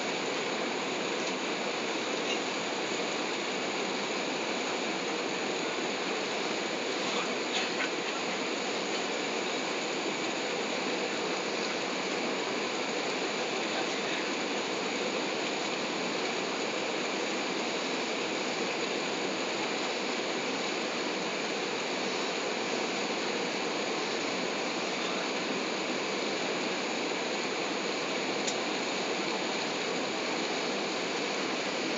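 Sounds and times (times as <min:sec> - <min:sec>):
airliner cabin noise: 0:00.0 - 0:31.9.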